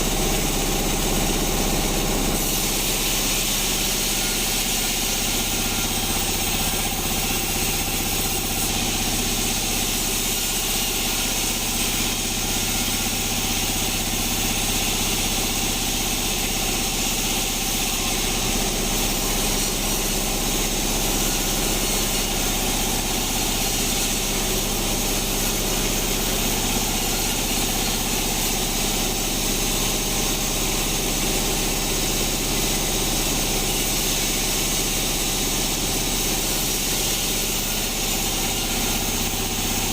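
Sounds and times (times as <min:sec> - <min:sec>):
sawmill machine hum: 0:00.0 - 0:39.9.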